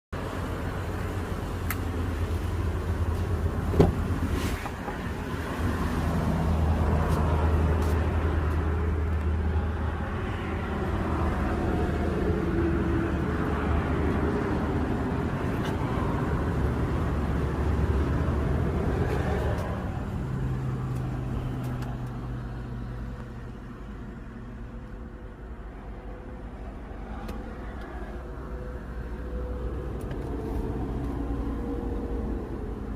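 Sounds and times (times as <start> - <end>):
car engine hum: 0.2 - 32.9.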